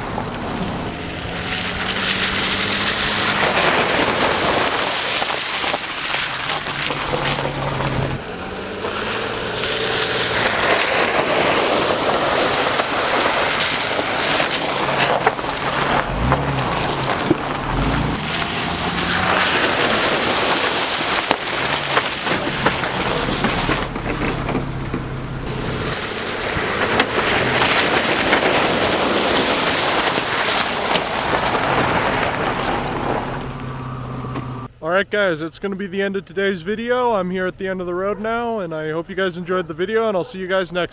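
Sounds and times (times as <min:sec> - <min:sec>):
low engine hum: 0:00.0 - 0:39.8
tyre and road noise: 0:00.0 - 0:40.9.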